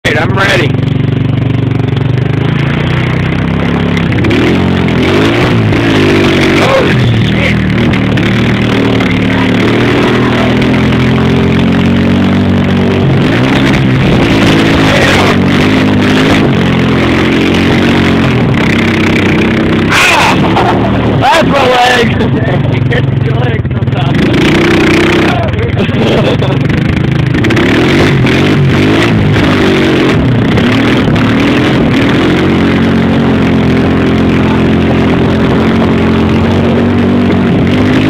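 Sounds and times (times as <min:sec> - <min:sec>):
engine revving: 0:00.0 - 0:38.0
steady rushing noise: 0:00.0 - 0:38.0.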